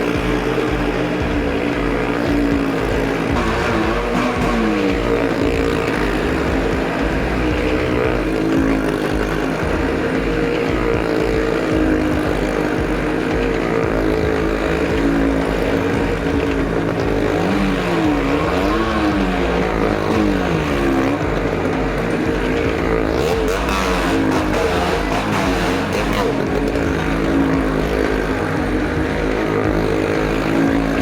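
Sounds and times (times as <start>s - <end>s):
stunt vehicle engines running: 0.0s - 31.0s.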